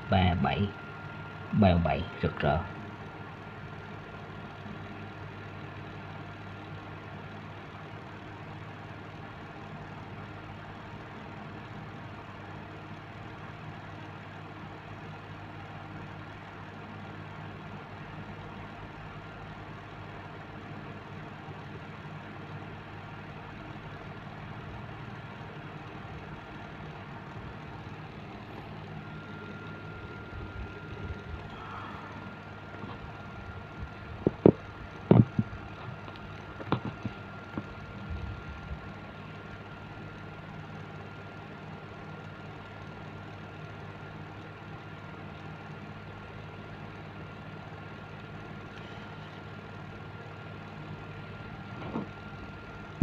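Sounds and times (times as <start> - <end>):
low background hum: 0.0 - 53.0.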